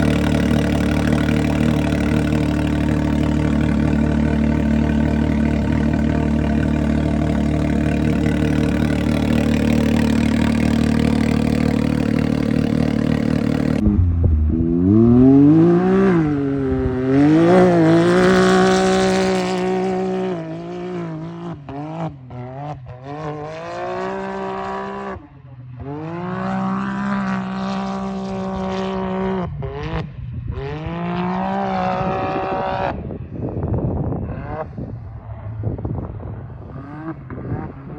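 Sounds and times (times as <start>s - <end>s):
loud engine revving: 0.0s - 25.2s, 25.8s - 33.1s, 36.6s - 37.9s.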